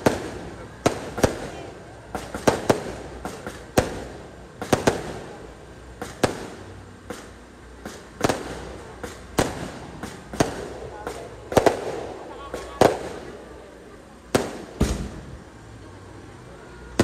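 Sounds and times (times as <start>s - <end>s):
fireworks bangs: 0.0s - 15.7s.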